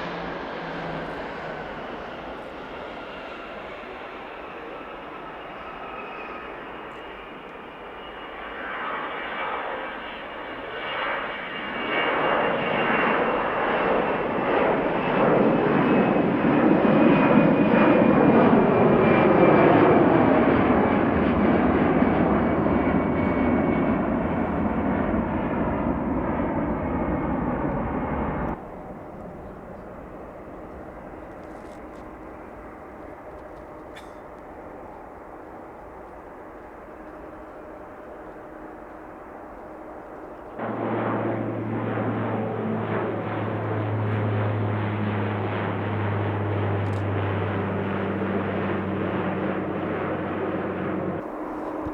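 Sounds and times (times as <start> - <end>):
jet airliner engine roar: 0.0 - 51.9.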